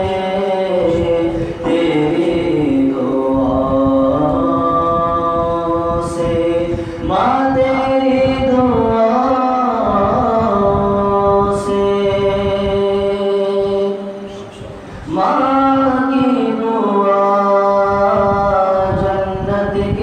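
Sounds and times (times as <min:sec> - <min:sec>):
man singing unaccompanied: 0:00.0 - 0:14.3, 0:15.1 - 0:20.0.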